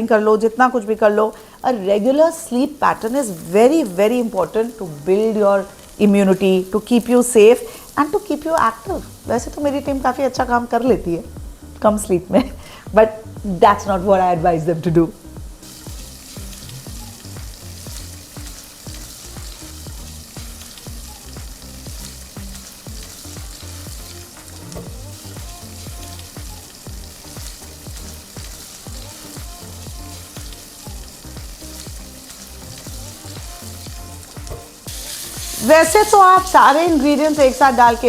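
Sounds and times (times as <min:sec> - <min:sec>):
meat sizzling in hot fat: 0:00.0 - 0:38.0.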